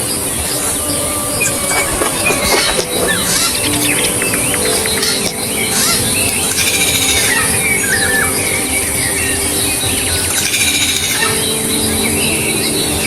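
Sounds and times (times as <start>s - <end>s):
birds singing and calling: 0.0s - 13.0s.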